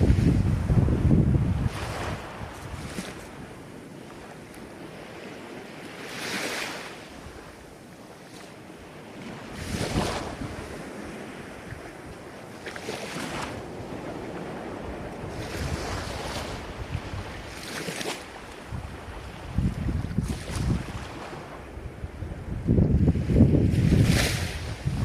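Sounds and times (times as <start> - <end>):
waves breaking on shore: 0.0 - 25.0
wind rumble on microphone: 0.0 - 25.0.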